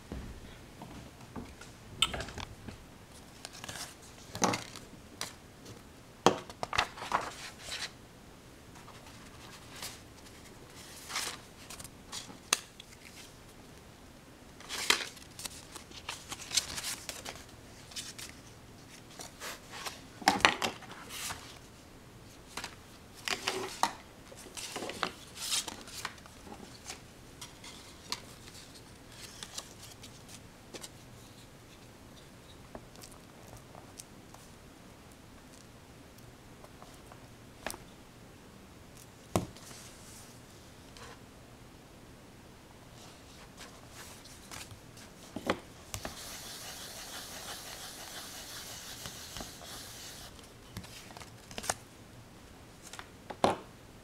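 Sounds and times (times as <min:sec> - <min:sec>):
quiet steady background noise: 0:00.0 - 0:54.0.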